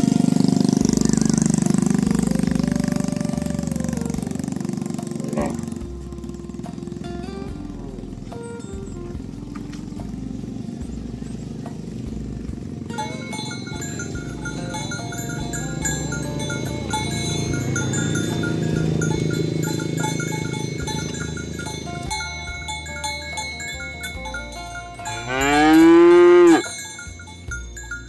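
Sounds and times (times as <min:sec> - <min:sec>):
light music with chimes: 0:00.0 - 0:28.0
cow mooing: 0:01.0 - 0:22.7, 0:23.4 - 0:26.8.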